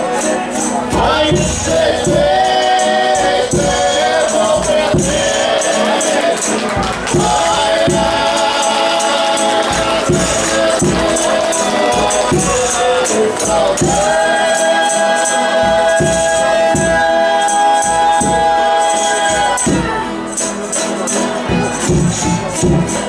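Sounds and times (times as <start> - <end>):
group singing: 0.0 - 23.0
tambourine: 0.0 - 23.0
voices holding harmonized note: 0.0 - 23.0
drum beat: 0.8 - 20.3, 21.4 - 23.0.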